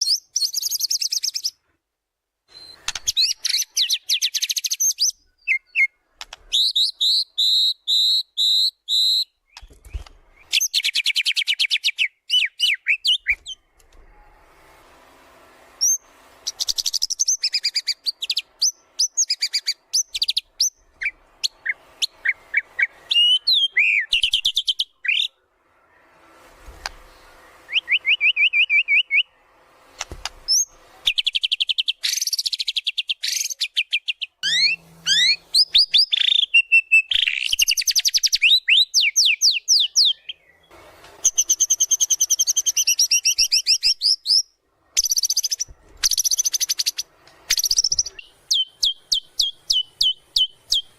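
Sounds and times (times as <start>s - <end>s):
songbird singing: 0.0s - 1.6s, 2.5s - 13.7s, 15.8s - 25.4s, 26.8s - 29.5s, 30.5s - 50.9s.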